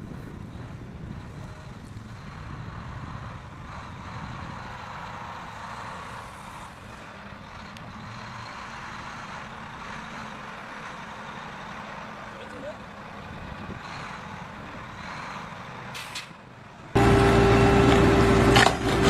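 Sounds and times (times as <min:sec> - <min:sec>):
heavy machine engine rumble: 0:00.0 - 0:19.0.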